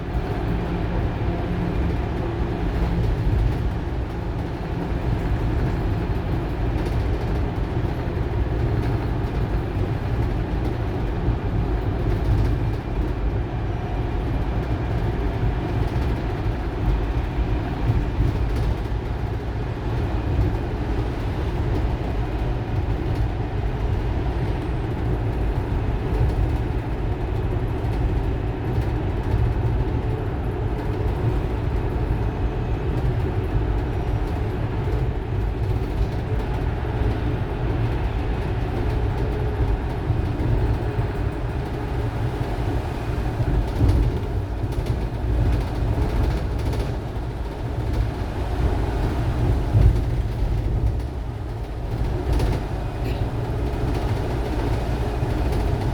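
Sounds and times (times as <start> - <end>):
low rumble of road noise: 0.0 - 55.9.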